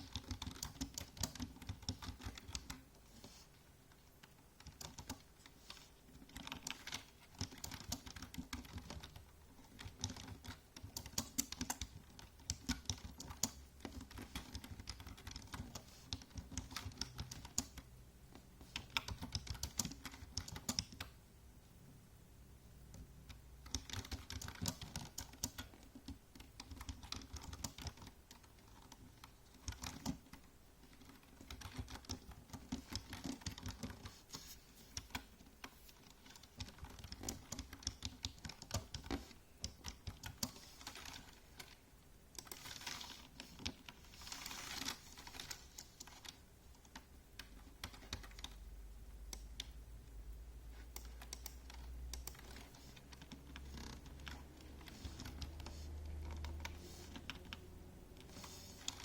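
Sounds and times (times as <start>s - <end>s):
typing on keyboard: 0.0s - 3.0s, 4.2s - 17.9s, 18.6s - 21.2s, 22.9s - 48.7s, 50.9s - 59.0s.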